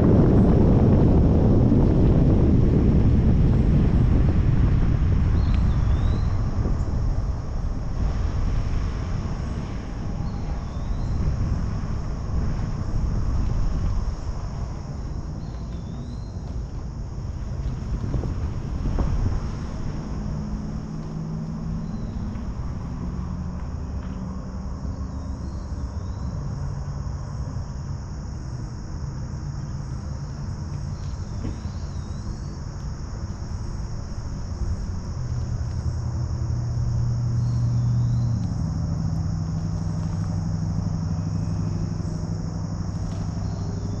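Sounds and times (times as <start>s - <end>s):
car engine humming: 0.0s - 44.0s
insects chirping: 0.0s - 44.0s.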